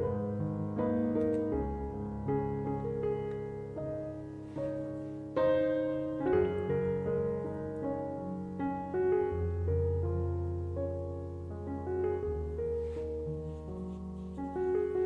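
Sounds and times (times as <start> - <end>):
soft piano playing chords: 0.0 - 15.0.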